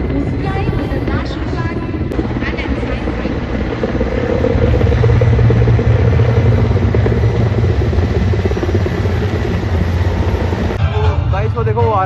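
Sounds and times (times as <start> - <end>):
helicopter engine drone: 0.0 - 10.8
helicopter rotor chop: 0.0 - 10.8.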